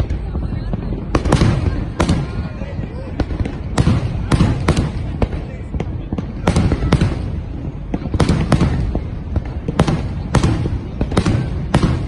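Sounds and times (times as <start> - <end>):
fireworks sharp bangs: 0.0 - 12.0
low rumble of fireworks: 0.0 - 12.0.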